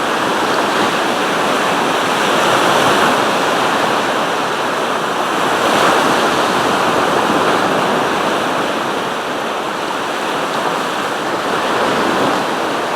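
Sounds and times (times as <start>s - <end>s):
waves breaking on shore: 0.0s - 12.9s.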